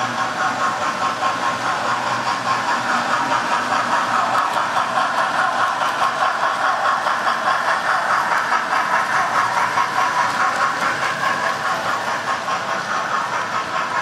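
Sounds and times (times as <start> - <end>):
model train whirring rattle: 0.0 - 14.0.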